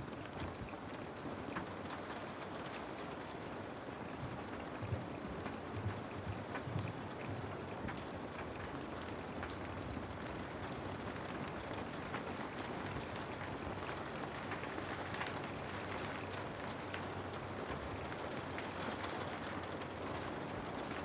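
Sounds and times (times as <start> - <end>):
steady rain patter: 0.0 - 21.0.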